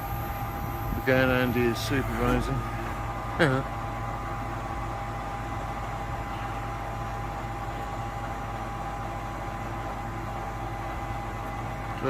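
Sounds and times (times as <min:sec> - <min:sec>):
crane high whine: 0:00.0 - 0:12.0
lorry engine running: 0:00.0 - 0:12.0.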